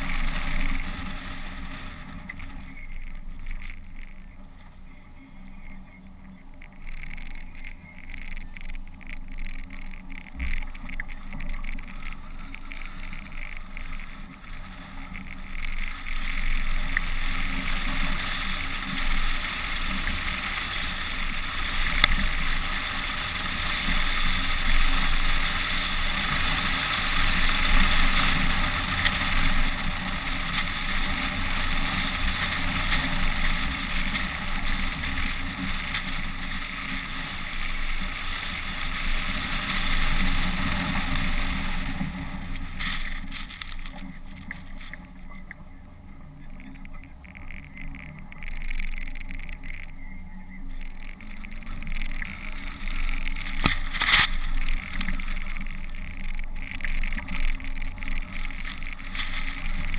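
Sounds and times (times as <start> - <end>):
tyres on snow: 0.0 - 59.9.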